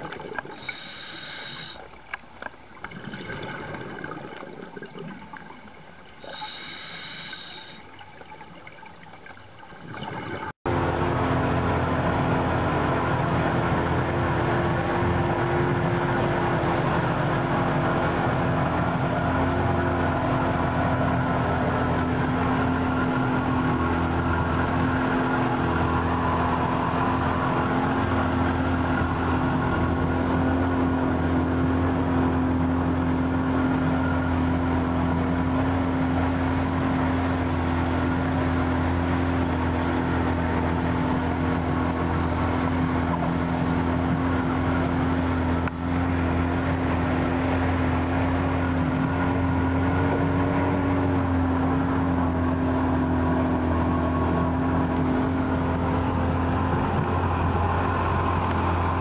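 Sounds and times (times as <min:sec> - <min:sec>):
boat motor droning: 0:00.0 - 0:59.0
underwater sound: 0:00.0 - 0:59.0
water noise: 0:00.0 - 0:59.0.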